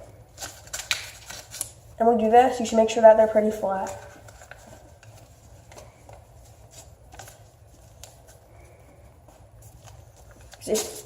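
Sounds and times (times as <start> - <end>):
low steady hum: 0.0 - 11.0
paper rustling: 0.3 - 1.8, 2.6 - 11.0.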